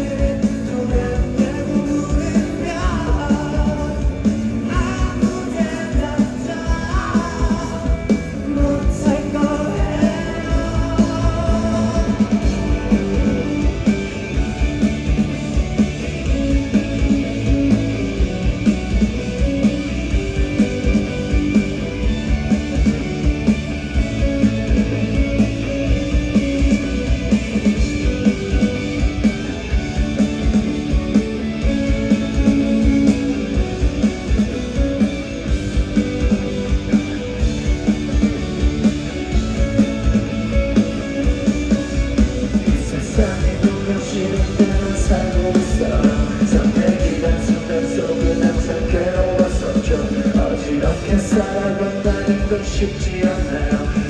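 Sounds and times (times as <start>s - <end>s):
drums keeping steady beat: 0.0s - 54.0s
electric guitar chords: 0.0s - 54.0s
live rock band playing: 0.0s - 54.0s.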